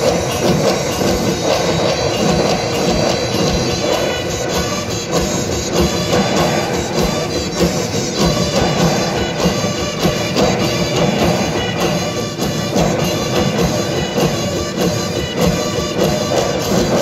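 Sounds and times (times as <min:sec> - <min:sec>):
dhol drums beating: 0:00.0 - 0:17.0
folk melody line: 0:00.0 - 0:17.0.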